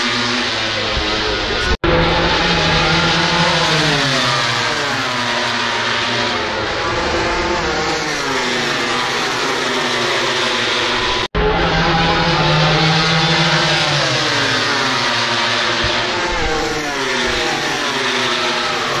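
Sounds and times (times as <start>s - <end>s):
racing motorcycles passing: 0.0s - 19.0s.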